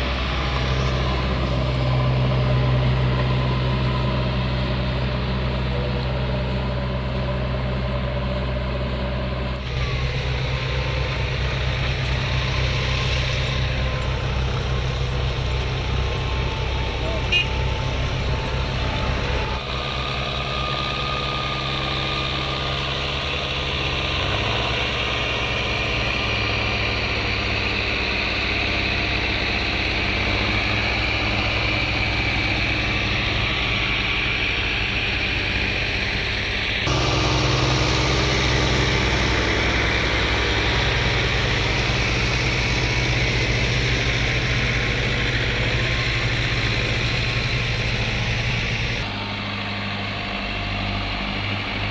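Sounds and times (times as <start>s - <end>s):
tractor diesel engines running: 0.0s - 51.9s.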